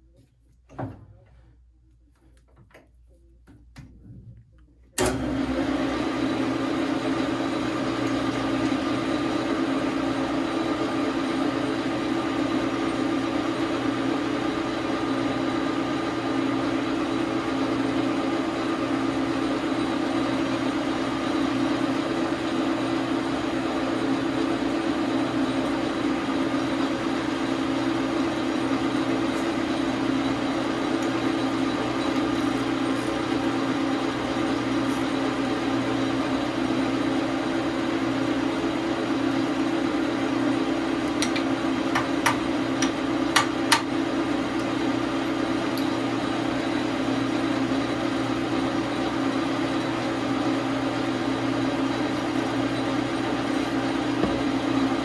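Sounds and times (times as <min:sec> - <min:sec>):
lathe motor running: 0:05.0 - 0:55.0.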